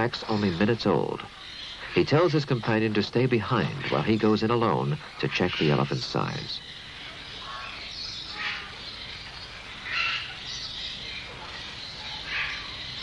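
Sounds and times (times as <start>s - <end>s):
birds chirping: 0.0s - 13.0s
low background noise: 0.0s - 13.0s.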